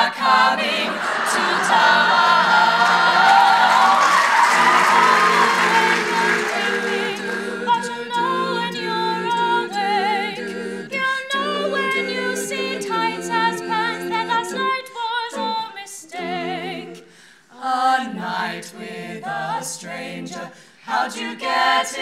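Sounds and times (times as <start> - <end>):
women singing in close harmony: 0.0 - 22.0.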